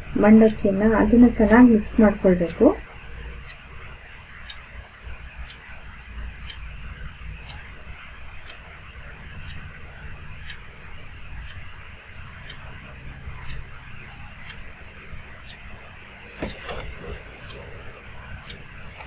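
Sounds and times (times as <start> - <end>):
faint ticking: 0.0 - 19.0.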